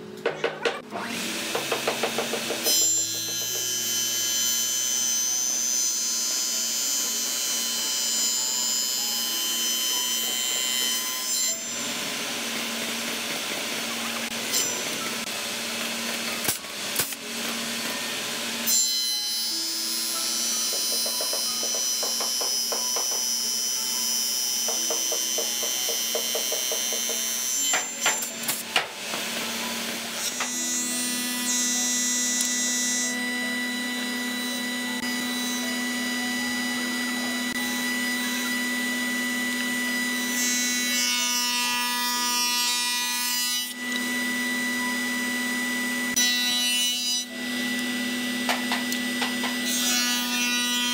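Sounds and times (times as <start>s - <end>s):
table saw cutting wood: 0.0s - 50.9s.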